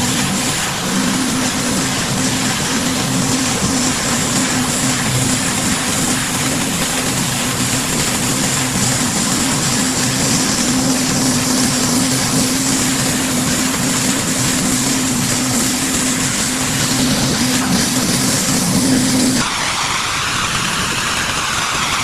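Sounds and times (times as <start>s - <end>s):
high-pressure water spray hiss: 0.0s - 22.0s
pressure washer engine hum: 0.0s - 22.0s.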